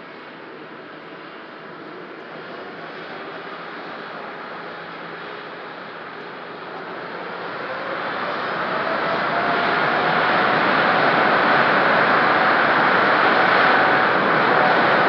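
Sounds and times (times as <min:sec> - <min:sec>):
jet engine whine: 0:00.0 - 0:15.0
jet engines roaring: 0:00.0 - 0:15.0.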